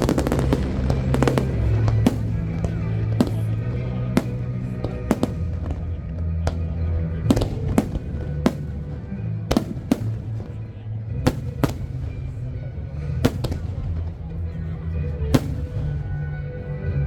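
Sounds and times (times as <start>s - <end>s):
fireworks bangs: 0.0s - 17.0s
music: 0.0s - 17.0s.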